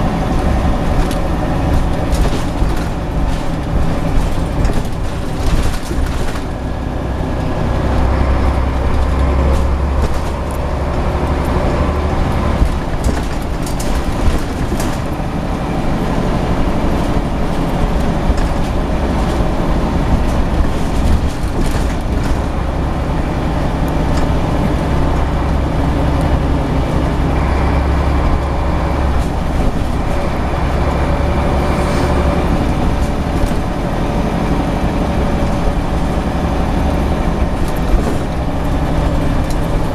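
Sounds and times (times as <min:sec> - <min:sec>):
knocks and rattles: 0:00.0 - 0:06.9, 0:08.4 - 0:25.1, 0:28.2 - 0:39.9
bus diesel engine rumble: 0:00.0 - 0:39.9.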